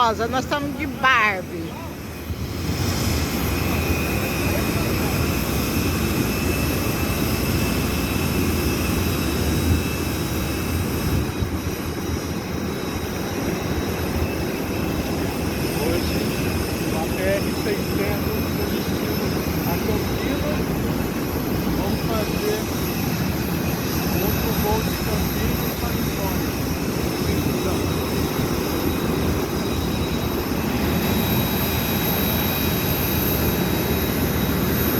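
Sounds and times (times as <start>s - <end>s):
high-pitched turbine whine: 0.0s - 34.9s
jet engines rumbling: 0.0s - 34.9s.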